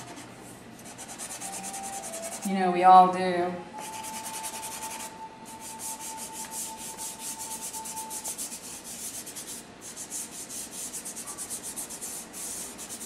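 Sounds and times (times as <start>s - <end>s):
pastel scratching on paper: 0.0s - 2.5s, 3.8s - 13.0s.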